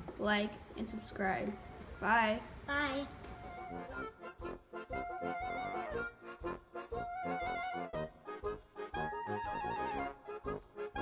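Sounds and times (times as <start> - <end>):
instrumental music: 1.2 - 11.0.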